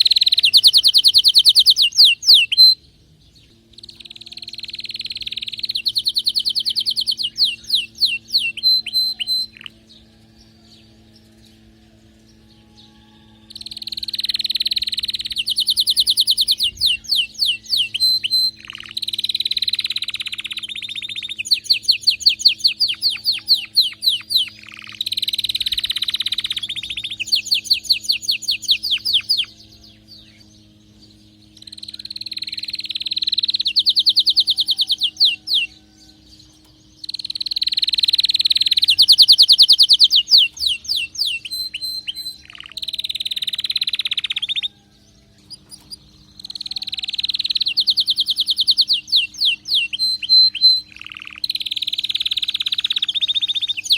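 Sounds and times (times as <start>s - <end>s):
canary singing trills: 0.0s - 53.9s
steady low hum: 0.0s - 53.9s.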